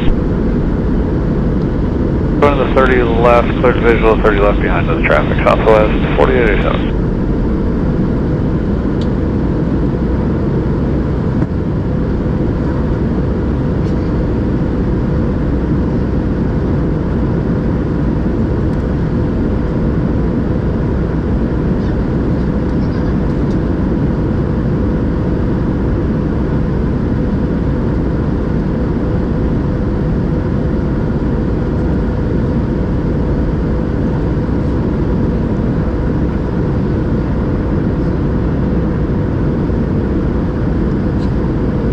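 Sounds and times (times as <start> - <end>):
aircraft engine drone: 0.0 - 41.9
faint steady whine: 0.0 - 41.9.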